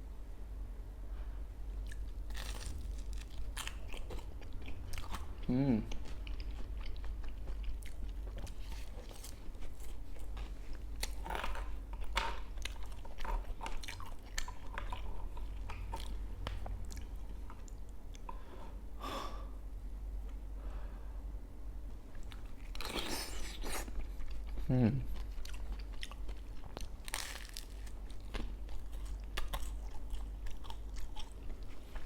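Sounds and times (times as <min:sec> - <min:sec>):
person chewing crunchy food: 0:01.8 - 0:18.4, 0:22.2 - 0:32.0.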